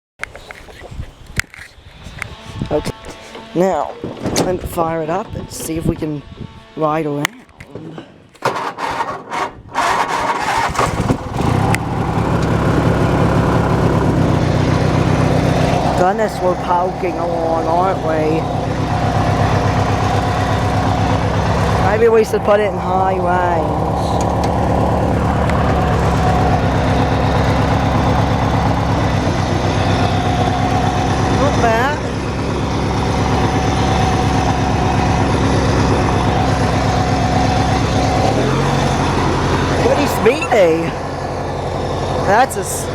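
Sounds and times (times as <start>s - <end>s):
lawn tractor engine cranking: 8.4s - 42.9s.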